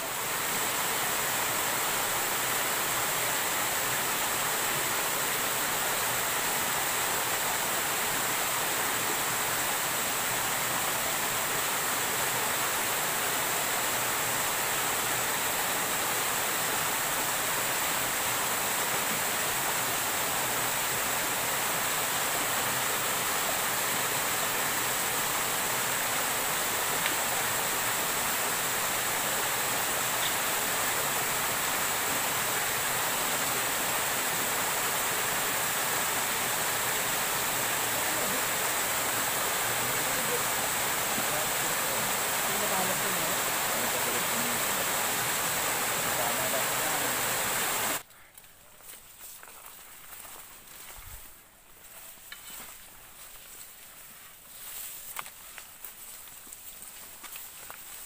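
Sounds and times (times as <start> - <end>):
stream rushing over cascades: 0.0 - 48.0.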